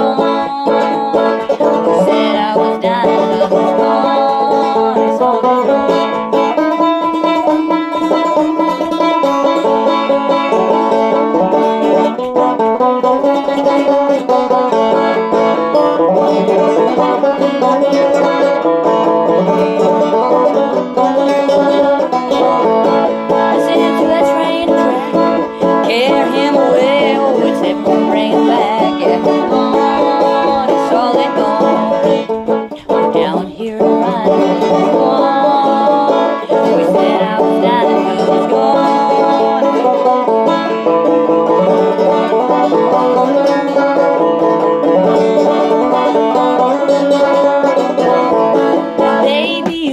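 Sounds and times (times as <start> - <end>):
banjo picking: 0.0 - 49.9.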